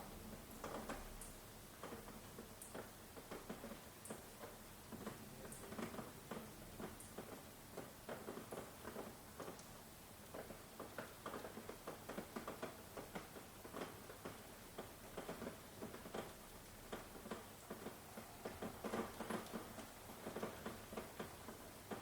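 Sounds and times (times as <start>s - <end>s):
rain hiss: 0.0s - 22.0s
raindrops pattering: 0.0s - 22.0s.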